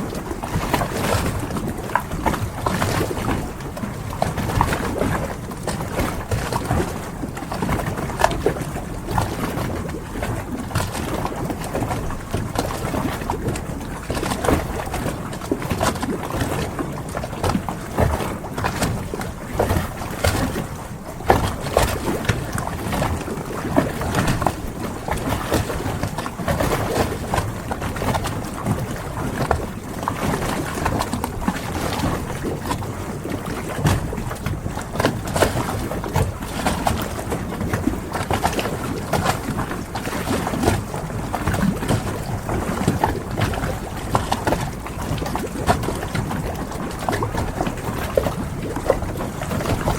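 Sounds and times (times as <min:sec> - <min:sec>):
water lapping around boats: 0:00.0 - 0:49.9.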